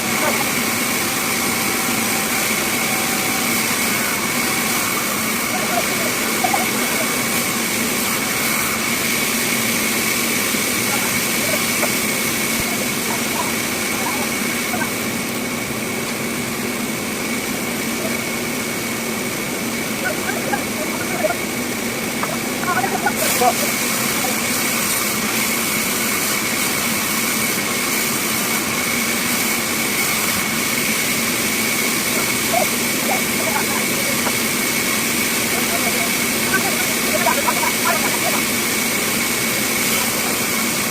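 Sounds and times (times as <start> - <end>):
bandsaw running: 0.0 - 40.9.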